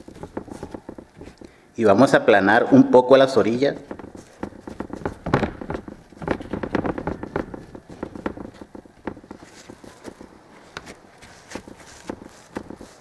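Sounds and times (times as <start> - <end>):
fingertips tapping on steel table: 0.0 - 1.6, 3.8 - 13.0.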